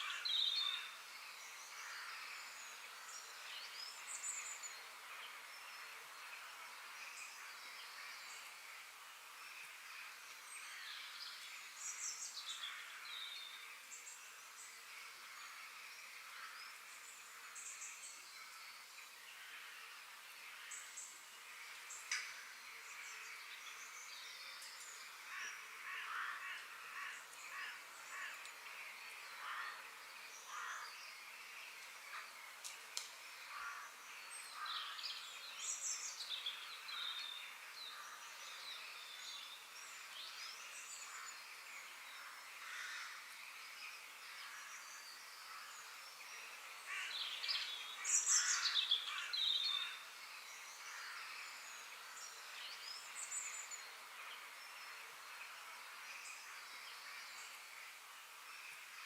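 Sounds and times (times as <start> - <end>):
high background hiss: 0.0 - 59.0
birds calling and chirping: 9.4 - 59.0.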